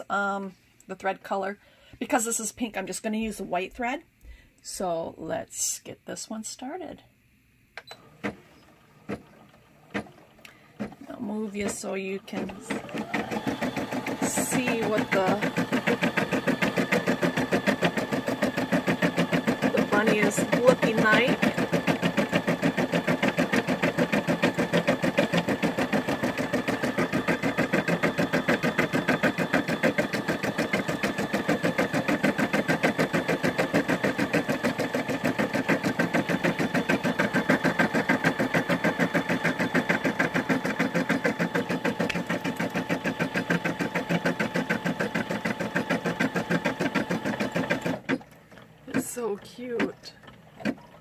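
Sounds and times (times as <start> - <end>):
embroidery machine stitching: 7.9 - 48.3, 48.9 - 51.0.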